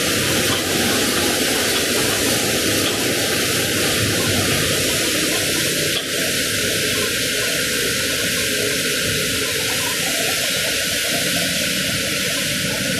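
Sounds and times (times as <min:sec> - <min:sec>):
water spraying: 0:00.0 - 0:12.9.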